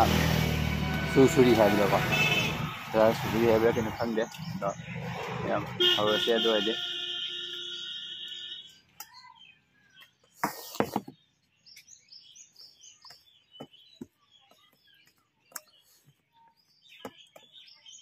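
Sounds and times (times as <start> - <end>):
small birds chirping: 2.1 - 18.0.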